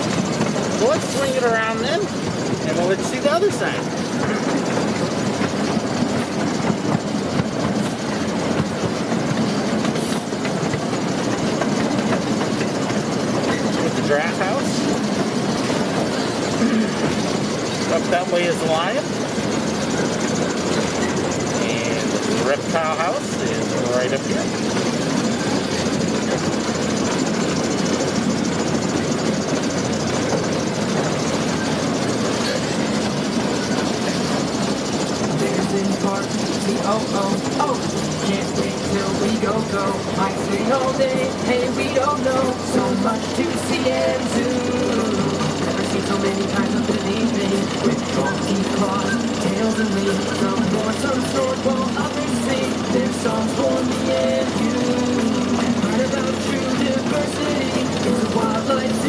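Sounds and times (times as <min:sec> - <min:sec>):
train rumble: 0:00.0 - 0:59.0
wheels clickety-clack: 0:00.0 - 0:59.0.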